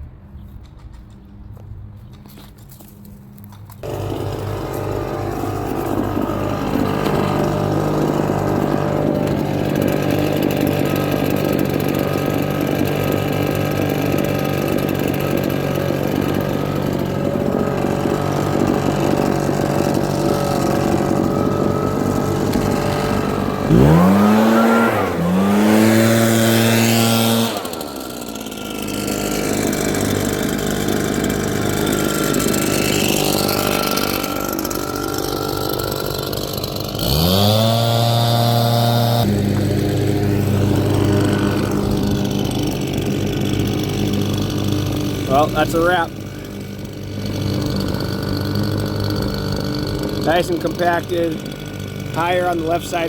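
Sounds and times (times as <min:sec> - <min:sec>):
diesel engine running: 0:03.4 - 0:53.0.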